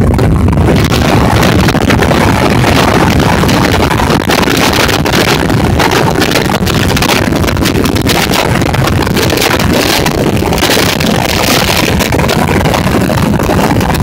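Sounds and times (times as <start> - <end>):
wind buffeting microphone: 0.0 - 14.0
wind rushing: 0.0 - 14.0.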